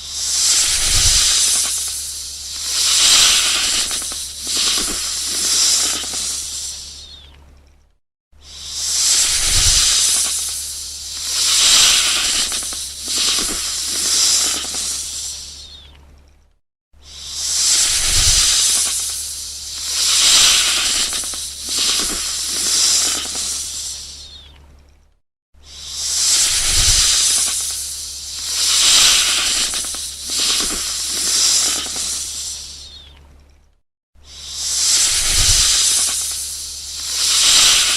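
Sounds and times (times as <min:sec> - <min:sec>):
snake hissing: 0:00.0 - 0:07.2, 0:08.4 - 0:15.8, 0:17.0 - 0:24.4, 0:25.6 - 0:33.1, 0:34.2 - 0:37.9.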